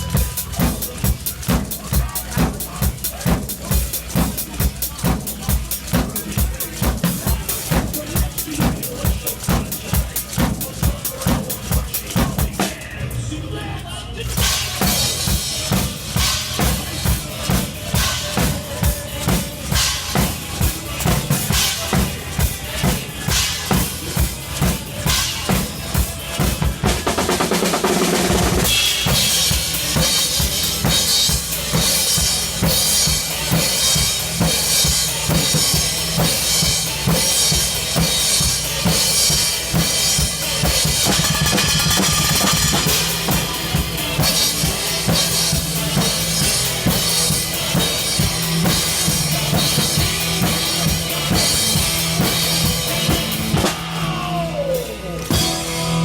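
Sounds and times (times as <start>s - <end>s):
cymbals: 0.0s - 12.9s, 14.3s - 56.0s
continuous cymbal wash: 0.0s - 13.4s, 14.2s - 56.0s
heavy metal music: 0.0s - 56.0s.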